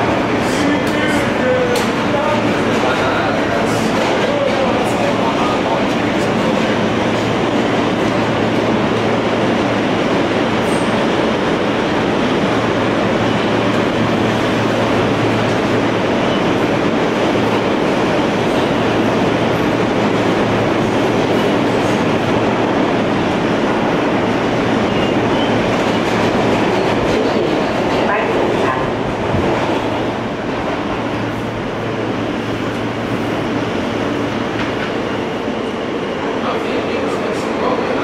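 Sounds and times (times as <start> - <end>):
wheels rumbling and rattling on rail: 0.0 - 38.0.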